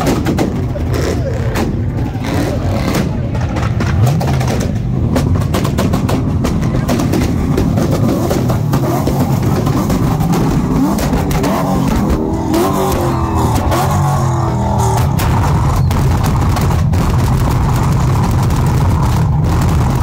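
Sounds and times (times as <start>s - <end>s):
car engines running: 0.0s - 20.0s
exhaust pops and bangs: 0.0s - 20.0s.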